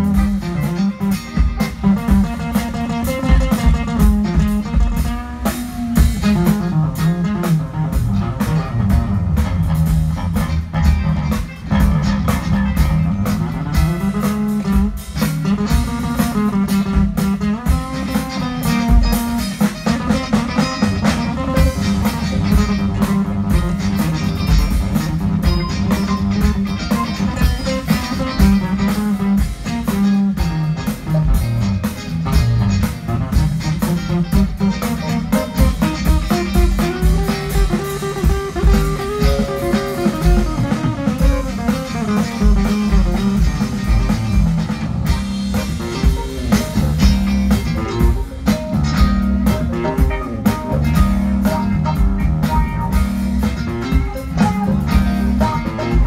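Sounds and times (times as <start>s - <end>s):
bass: 0.0s - 56.0s
drum kit: 0.0s - 56.0s
electric guitar: 0.0s - 56.0s.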